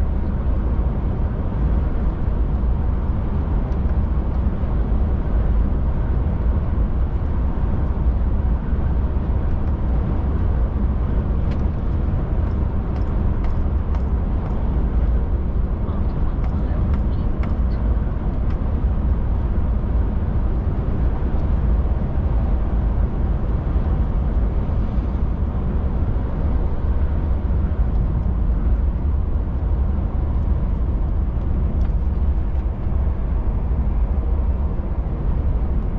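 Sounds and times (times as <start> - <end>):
truck engine and road drone: 0.0 - 35.9.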